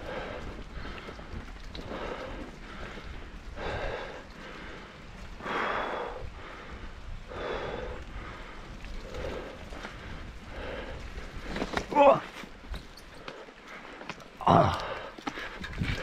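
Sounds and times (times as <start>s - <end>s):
person breathing hard: 0.0s - 11.5s, 13.2s - 16.0s.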